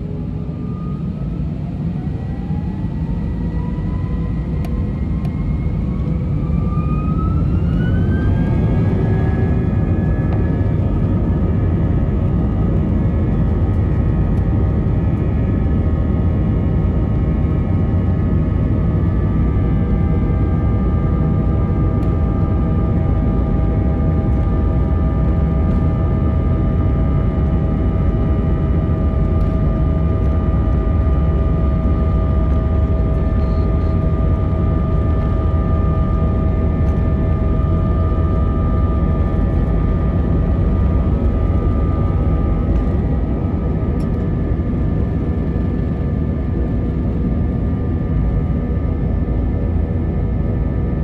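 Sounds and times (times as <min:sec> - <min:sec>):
heavy low cabin rumble: 0:00.0 - 0:51.0
jet engines whining: 0:00.0 - 0:51.0.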